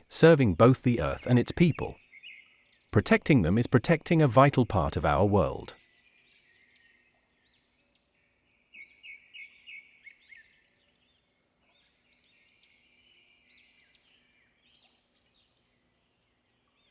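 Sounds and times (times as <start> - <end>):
faint birdsong chirping: 0.0 - 16.9.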